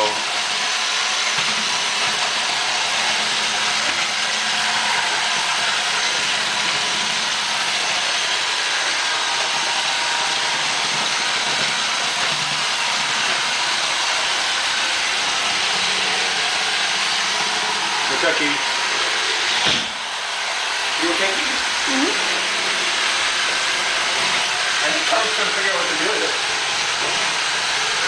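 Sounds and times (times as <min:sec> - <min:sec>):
robot vacuum running: 0:00.0 - 0:28.0.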